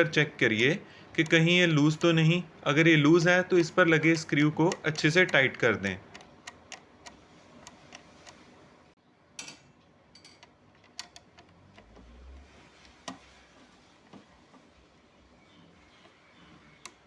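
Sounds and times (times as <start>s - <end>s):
clicks and light taps: 0.3s - 8.6s, 10.2s - 17.0s.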